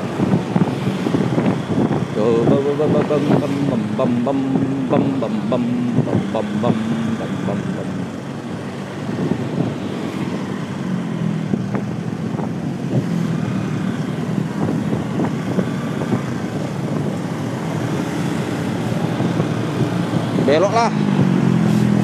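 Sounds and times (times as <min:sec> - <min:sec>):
motorcycle engine hum: 0:00.0 - 0:22.0
road noise: 0:00.0 - 0:22.0
wind noise: 0:00.0 - 0:22.0.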